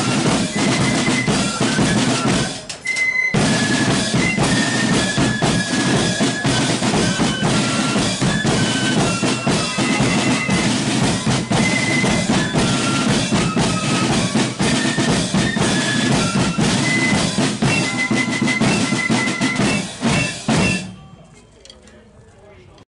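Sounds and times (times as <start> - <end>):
snare drums: 0.0 - 21.1
flutes playing a tune: 0.0 - 21.6.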